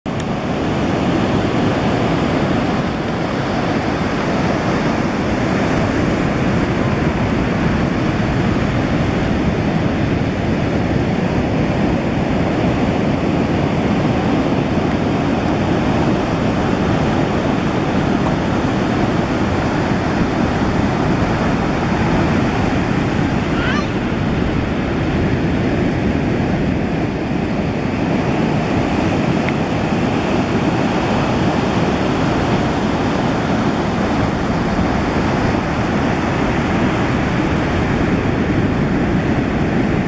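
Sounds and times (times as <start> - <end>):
ocean waves breaking: 0.1 - 40.0.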